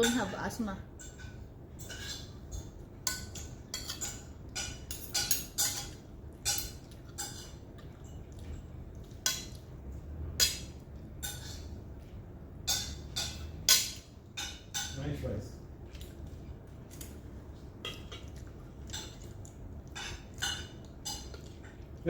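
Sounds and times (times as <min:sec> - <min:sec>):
cutlery clinking against plates: 0:00.0 - 0:00.4, 0:01.0 - 0:15.2, 0:17.8 - 0:22.0.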